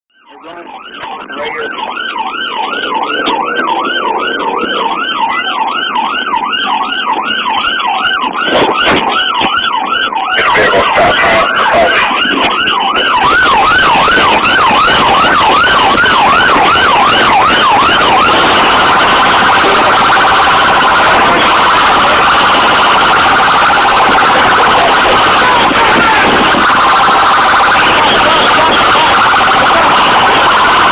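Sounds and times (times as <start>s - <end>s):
police siren yelping: 0.1s - 30.9s
road and engine noise: 0.1s - 30.9s.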